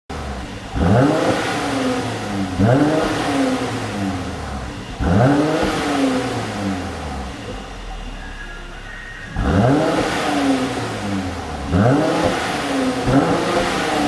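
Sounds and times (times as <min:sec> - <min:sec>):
car engine revving: 0:00.1 - 0:14.0
exhaust popping: 0:00.1 - 0:14.0.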